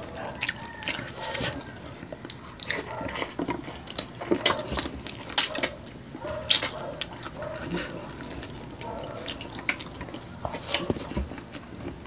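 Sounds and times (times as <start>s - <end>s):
people chewing and biting: 0.0s - 12.0s.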